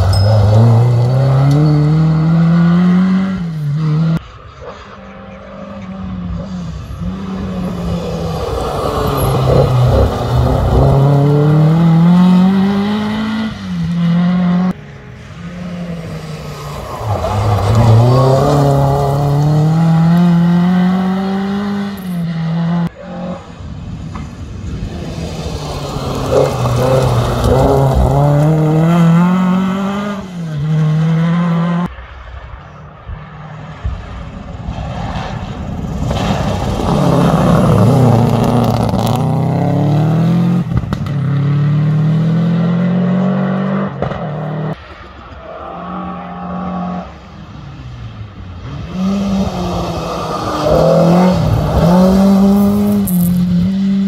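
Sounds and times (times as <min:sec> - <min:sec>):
rally cars accelerating past: 0:00.0 - 0:32.0, 0:33.5 - 0:54.0.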